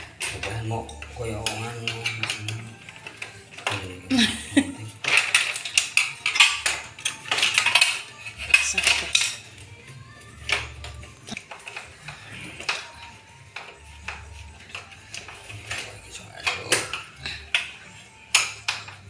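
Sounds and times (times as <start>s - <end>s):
pliers clinking on metal tubes: 0.0s - 19.0s.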